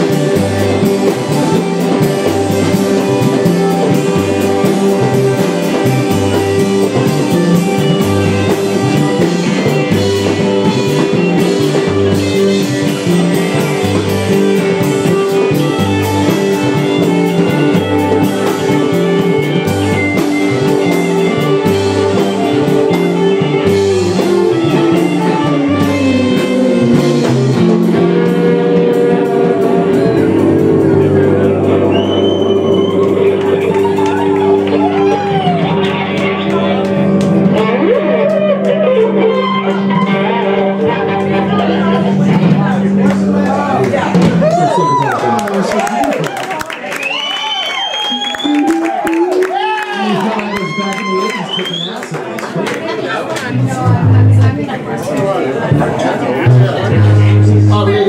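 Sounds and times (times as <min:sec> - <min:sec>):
live blues-rock band playing: 0:00.0 - 0:45.7, 0:53.2 - 0:58.0.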